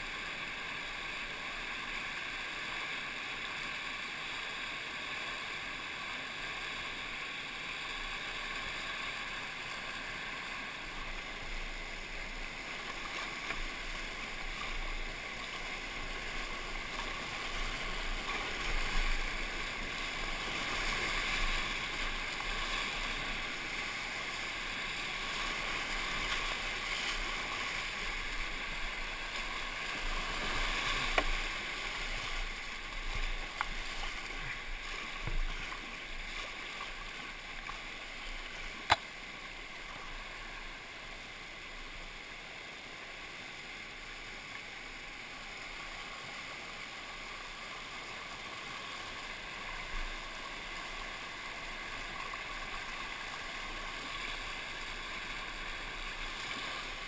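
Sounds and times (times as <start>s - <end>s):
whitewater rapids rushing: 0.0s - 57.0s.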